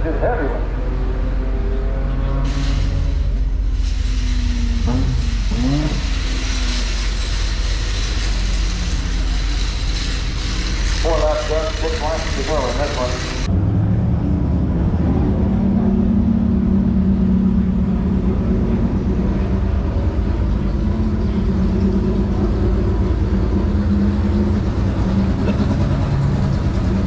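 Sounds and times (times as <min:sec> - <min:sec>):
race car engine rumbling: 0:00.0 - 0:27.0.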